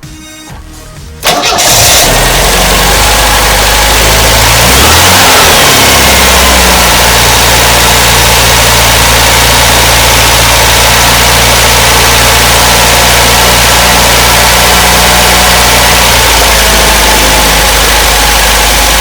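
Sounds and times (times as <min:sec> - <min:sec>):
car engine idling: 0:01.2 - 0:19.0.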